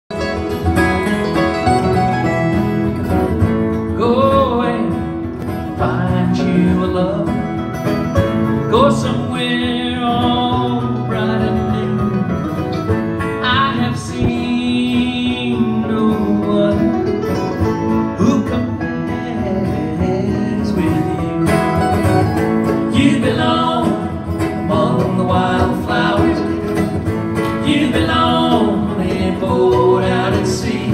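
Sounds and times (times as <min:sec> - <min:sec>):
acoustic guitars: 0:00.1 - 0:30.9
mandolin: 0:00.1 - 0:30.9.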